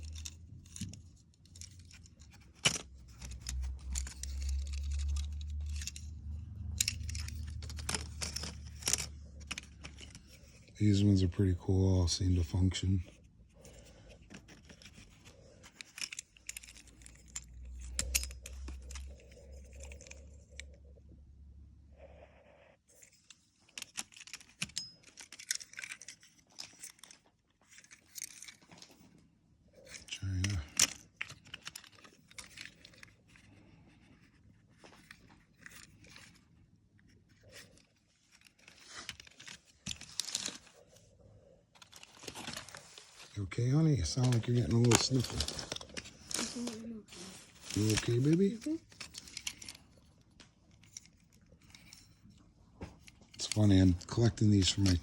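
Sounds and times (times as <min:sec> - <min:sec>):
metal toy cars clinking: 0:00.0 - 0:21.1, 0:22.9 - 0:41.1, 0:41.8 - 0:55.0.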